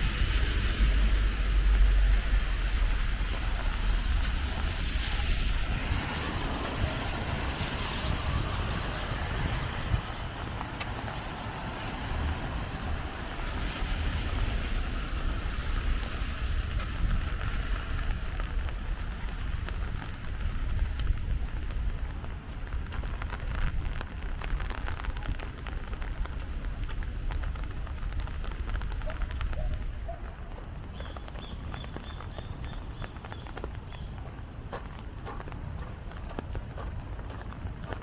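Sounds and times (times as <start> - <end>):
rain on street: 0.0 - 38.0
traffic hiss on wet pavement: 0.0 - 38.0.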